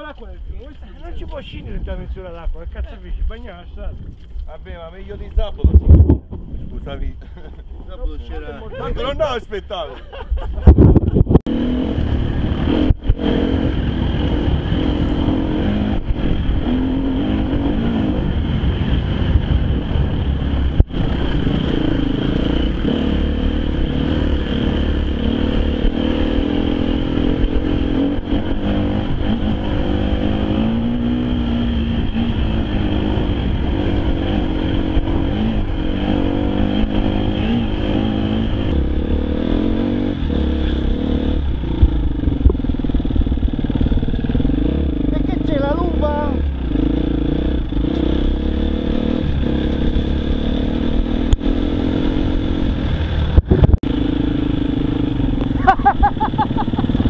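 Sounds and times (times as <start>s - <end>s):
motorcycle engine revving: 10.7s - 57.0s.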